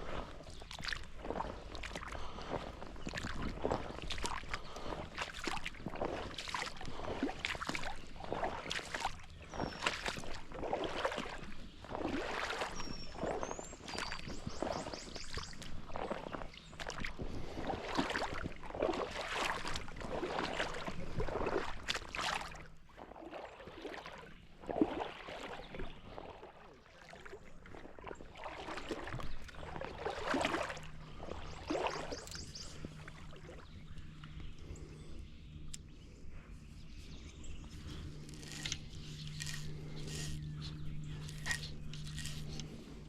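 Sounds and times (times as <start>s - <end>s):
footsteps splashing in water: 0.0s - 34.9s, 37.5s - 43.0s.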